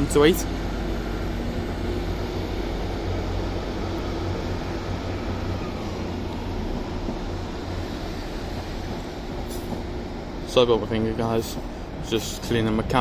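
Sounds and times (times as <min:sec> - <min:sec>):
diesel train engine humming: 0:00.0 - 0:13.0.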